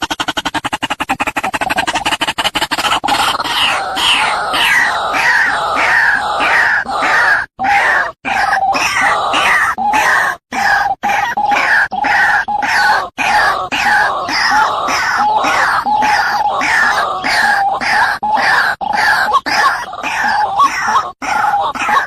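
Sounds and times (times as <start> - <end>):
waterhen croaking calls: 0.0 - 22.0.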